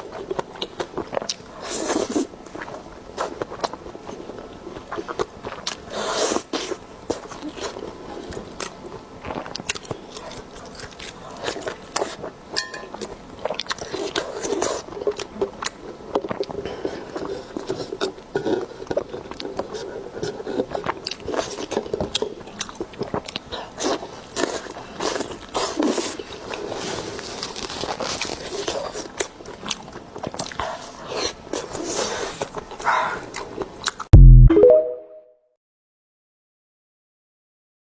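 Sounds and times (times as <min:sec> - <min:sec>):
crunchy chewing: 0:00.0 - 0:34.1.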